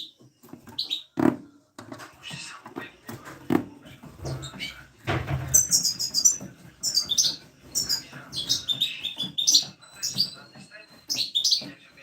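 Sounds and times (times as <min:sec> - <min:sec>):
small birds chirping: 0:00.0 - 0:01.3, 0:02.1 - 0:12.0.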